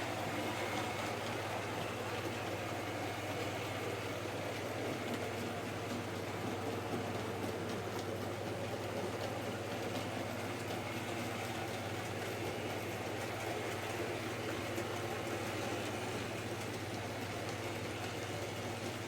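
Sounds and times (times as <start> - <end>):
wheels clicking on track: 0.0 - 19.0.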